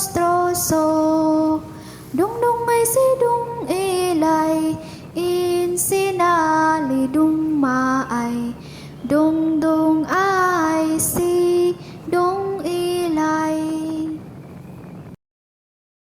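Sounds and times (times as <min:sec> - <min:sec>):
high voice singing held notes: 0:00.0 - 0:14.2.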